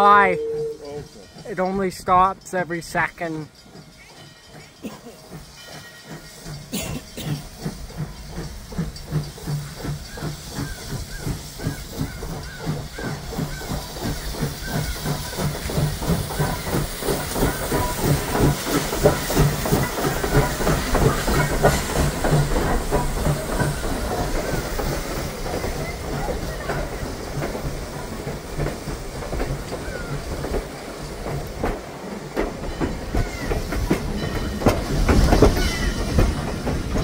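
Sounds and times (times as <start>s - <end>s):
steam hissing: 0.0s - 37.0s
steam locomotive chuffing: 0.0s - 37.0s.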